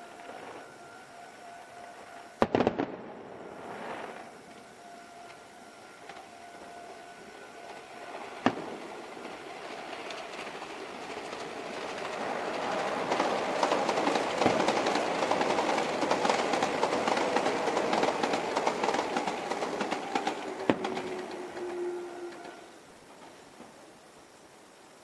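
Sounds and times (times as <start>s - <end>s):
firework shells banging: 1.4s - 22.3s
train wheels clattering on rails: 3.6s - 24.1s.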